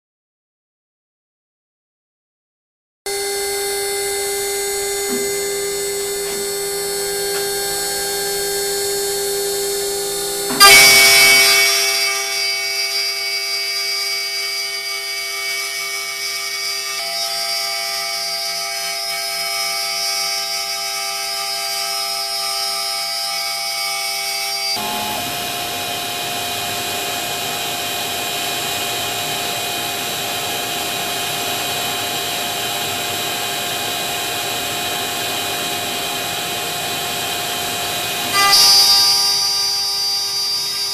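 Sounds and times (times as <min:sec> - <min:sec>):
cnc router motors whining: 0:03.1 - 0:40.9.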